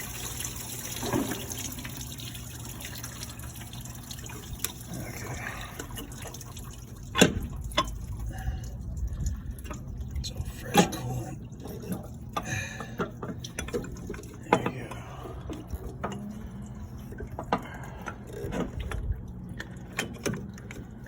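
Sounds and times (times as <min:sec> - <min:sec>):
coolant pouring into drain pan: 0:00.0 - 0:21.0.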